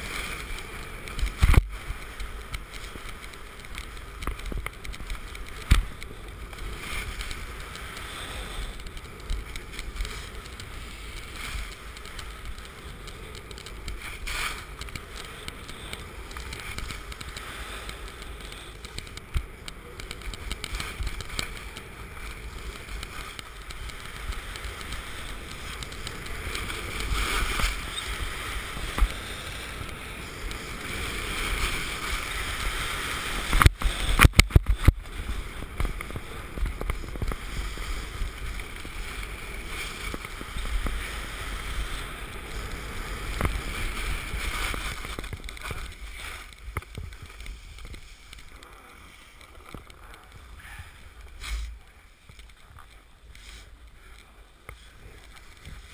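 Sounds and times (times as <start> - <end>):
ski edges scraping on snow: 0.0 - 55.9
wind buffeting camera: 0.0 - 55.9.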